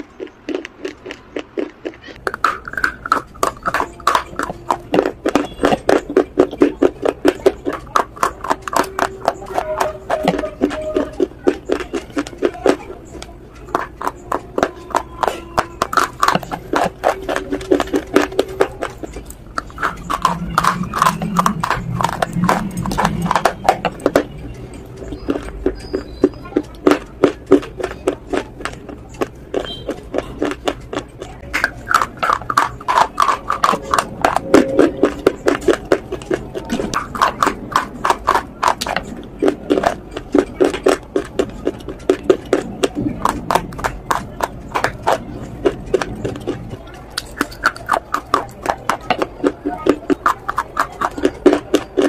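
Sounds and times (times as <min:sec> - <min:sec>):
chalk sticks crunching when chewed: 0:00.0 - 0:52.0.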